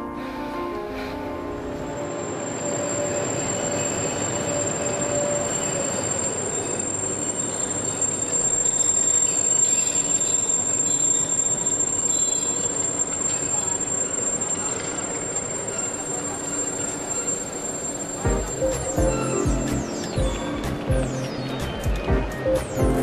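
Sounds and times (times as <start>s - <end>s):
passenger train running: 0.0s - 23.0s
wheel squeal: 2.0s - 22.8s.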